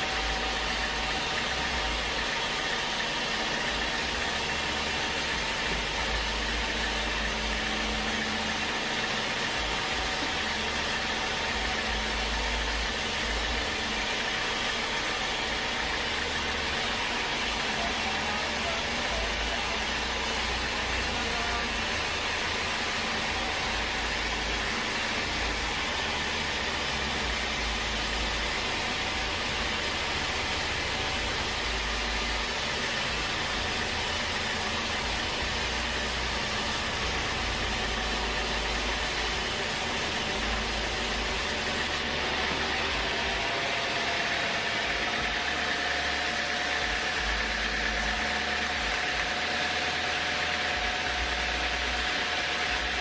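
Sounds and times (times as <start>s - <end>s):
sawmill machinery running: 0.0s - 53.0s
steady humming tone: 0.0s - 53.0s.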